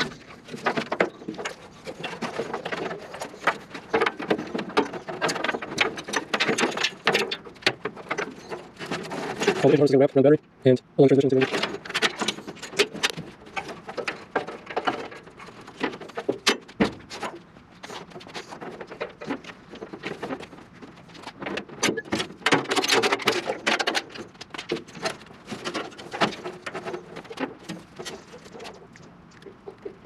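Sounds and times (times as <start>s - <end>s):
rustling: 0.0s - 10.2s, 11.1s - 30.0s.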